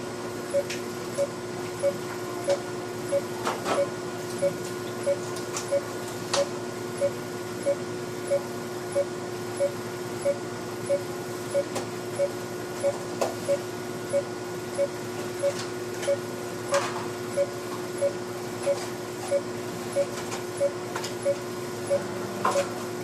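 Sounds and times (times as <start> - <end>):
steady low hum: 0.0 - 23.0
patient monitor beeping: 0.5 - 16.2, 17.3 - 22.7.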